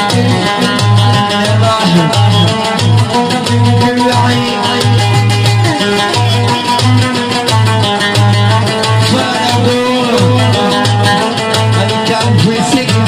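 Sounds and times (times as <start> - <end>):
live band dance music: 0.0 - 13.0.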